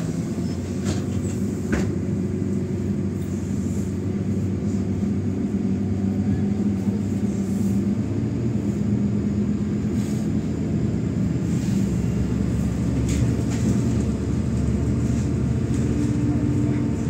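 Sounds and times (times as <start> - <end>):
diesel bus engine drone: 0.0 - 17.0
road rumble: 0.0 - 17.0.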